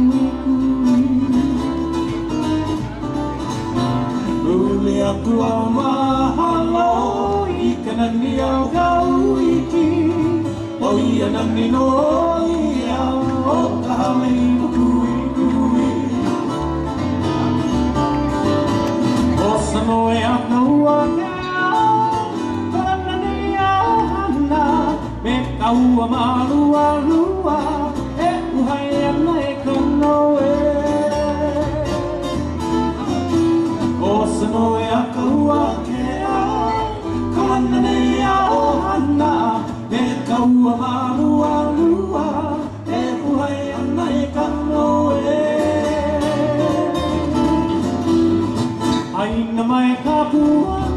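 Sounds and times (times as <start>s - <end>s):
man singing: 0.0s - 2.4s, 4.1s - 16.8s, 19.2s - 33.1s, 33.7s - 48.2s, 48.9s - 50.9s
bass guitar: 0.0s - 50.9s
strummed guitars: 0.0s - 50.9s.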